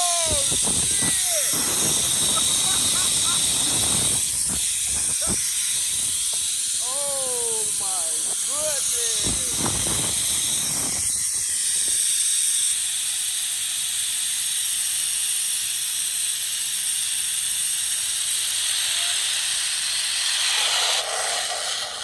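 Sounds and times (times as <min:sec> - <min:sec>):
zip-line pulleys hissing on cable: 0:00.0 - 0:22.0.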